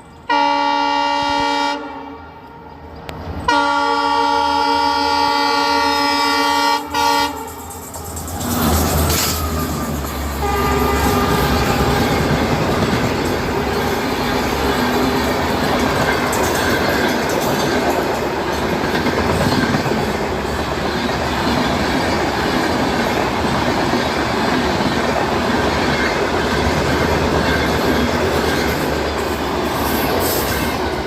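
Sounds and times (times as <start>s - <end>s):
train wheels on rails: 4.4s - 31.0s.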